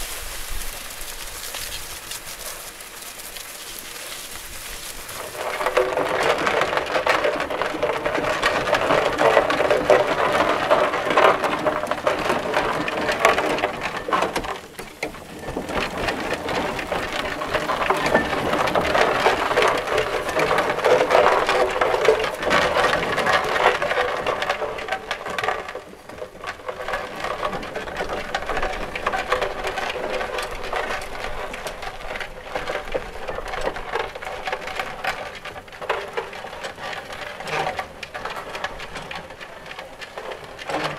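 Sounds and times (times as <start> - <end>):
steam engine parts clattering: 4.4 - 40.9.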